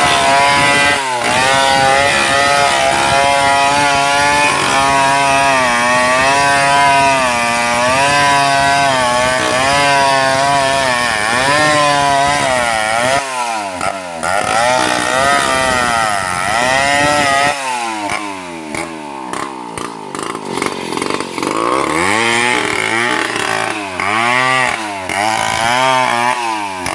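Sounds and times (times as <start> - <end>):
chainsaw cutting through log: 0.0 - 26.9.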